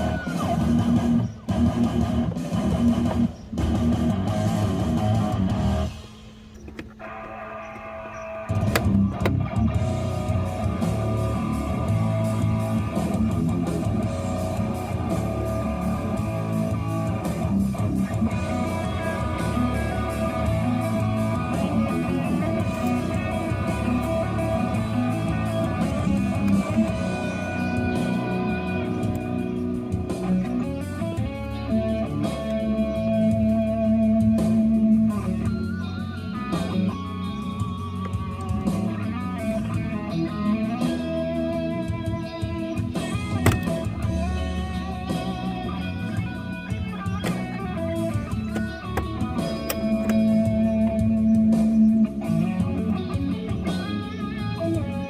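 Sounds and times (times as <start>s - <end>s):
bass guitar: 0.0s - 55.0s
strummed electric guitar: 0.0s - 55.0s.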